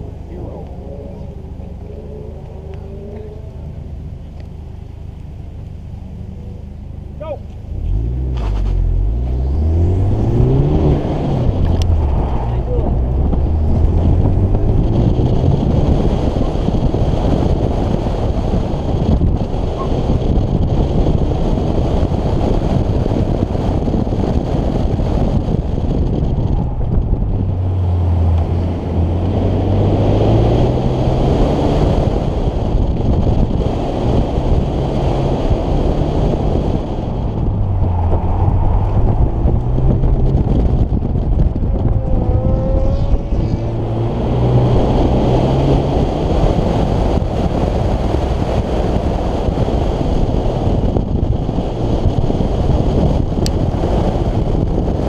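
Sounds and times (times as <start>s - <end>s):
car engine accelerating: 0.0s - 55.0s
wind buffeting microphone: 8.5s - 55.0s.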